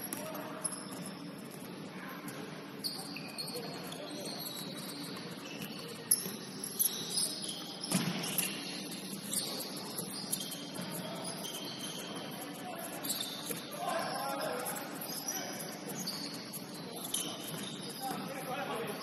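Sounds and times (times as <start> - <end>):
gym background noise: 0.0 - 19.0
shoes squeaking on court: 0.0 - 19.0.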